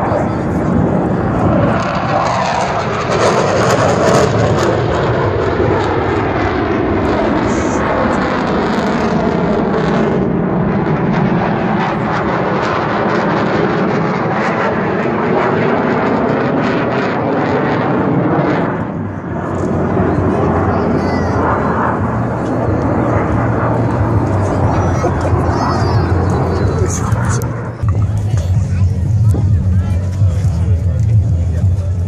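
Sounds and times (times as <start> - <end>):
fighter jet roaring past: 0.0 - 32.0.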